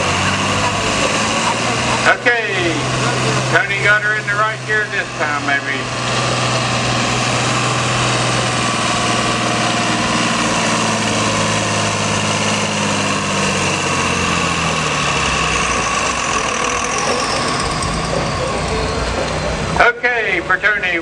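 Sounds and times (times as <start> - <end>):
tractor engine under load: 0.0 - 21.0.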